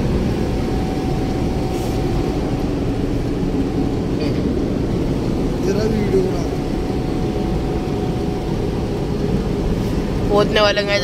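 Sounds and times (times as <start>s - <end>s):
diesel car road and engine rumble: 0.0s - 11.0s.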